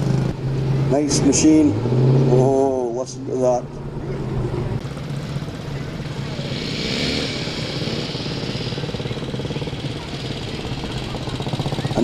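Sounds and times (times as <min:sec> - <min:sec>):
car engine rumbling past: 0:00.0 - 0:12.0.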